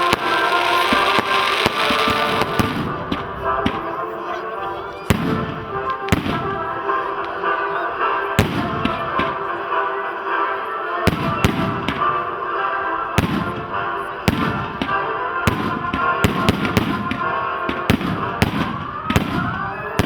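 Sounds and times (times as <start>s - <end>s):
firework bangs: 0.0s - 4.1s, 5.0s - 9.6s, 11.1s - 12.4s, 13.0s - 20.0s
music: 0.0s - 20.0s.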